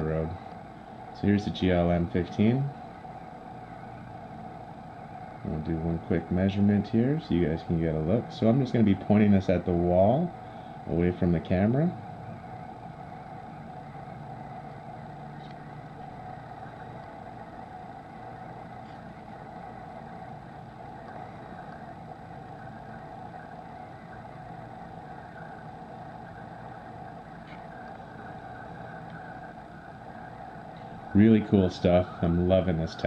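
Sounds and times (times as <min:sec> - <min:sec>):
mechanical hum: 0:00.0 - 0:33.0.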